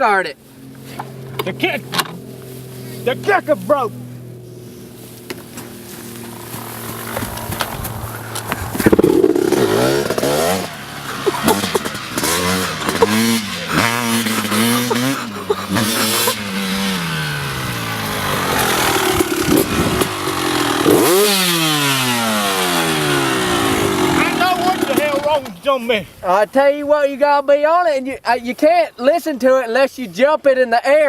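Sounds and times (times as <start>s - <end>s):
dirt bike engine revving: 0.7s - 25.6s.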